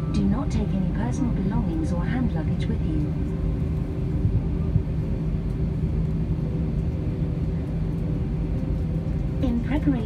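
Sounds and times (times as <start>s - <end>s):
airliner cabin drone: 0.0s - 10.0s
steady hum tones: 0.0s - 10.0s.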